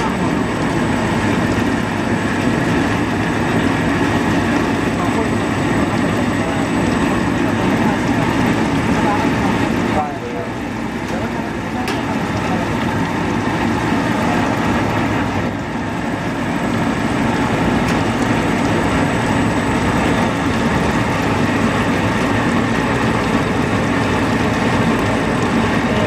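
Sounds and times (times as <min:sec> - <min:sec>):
vegetable washing machine running: 0:00.0 - 0:26.0.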